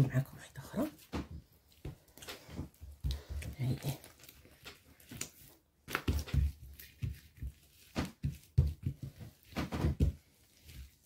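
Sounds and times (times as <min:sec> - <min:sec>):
hands slapping dough: 0:00.8 - 0:11.0.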